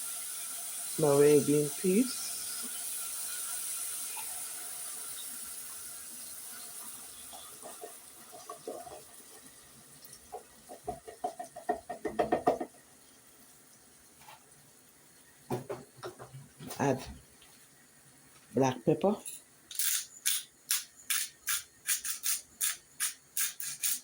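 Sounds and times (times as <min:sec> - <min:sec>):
sizzling hiss from pot: 0:00.0 - 0:15.8, 0:19.2 - 0:24.0.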